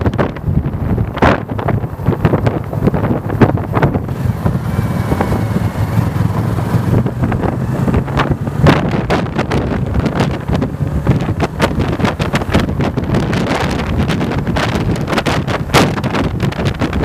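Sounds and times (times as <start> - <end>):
motorcycle engine accelerating: 0.0 - 17.0
wind buffeting microphone: 0.0 - 17.0.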